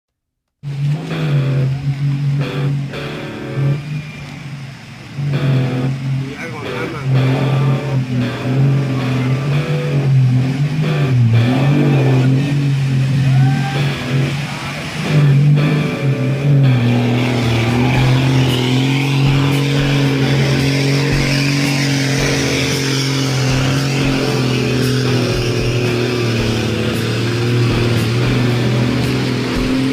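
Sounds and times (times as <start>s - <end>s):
truck engine running: 0.6s - 29.9s.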